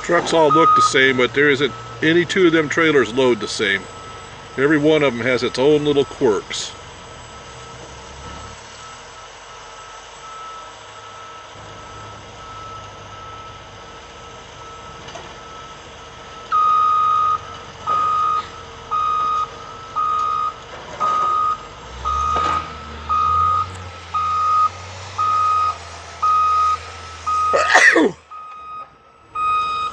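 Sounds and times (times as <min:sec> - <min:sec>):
backup alarm beeping: 0:00.0 - 0:29.9
engine running: 0:00.0 - 0:29.9.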